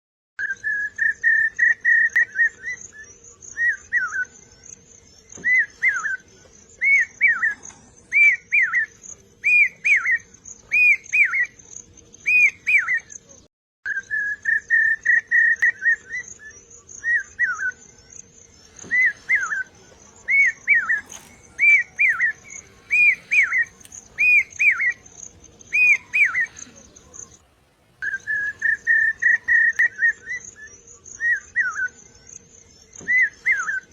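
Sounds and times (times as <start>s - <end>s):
whistled bird-like song: 0.4s - 33.9s.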